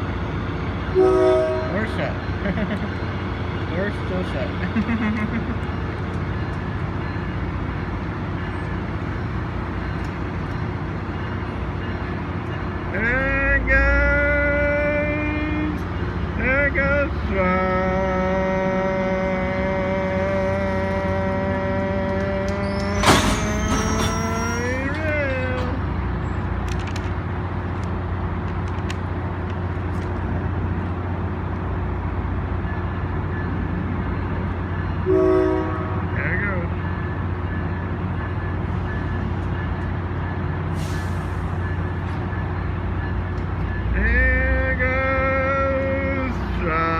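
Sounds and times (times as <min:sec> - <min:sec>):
diesel locomotive idling: 0:00.0 - 0:46.9.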